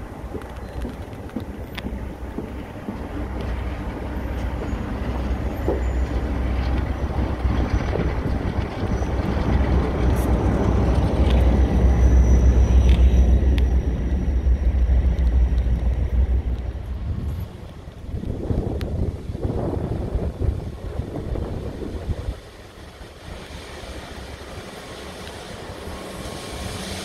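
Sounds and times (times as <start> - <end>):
diesel locomotives engine rumble: 0.0 - 27.0.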